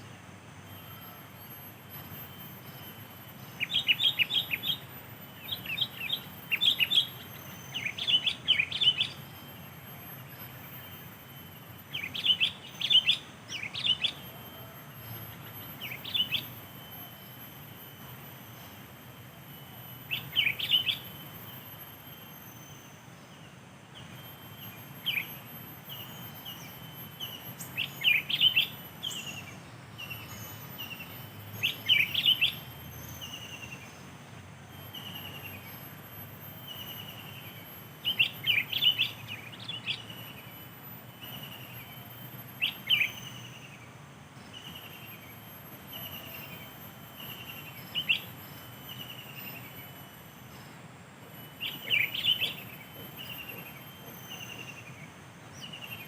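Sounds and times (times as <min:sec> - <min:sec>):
birds chirping: 0:00.0 - 0:56.0
high-pitched insect drone: 0:00.0 - 0:56.0.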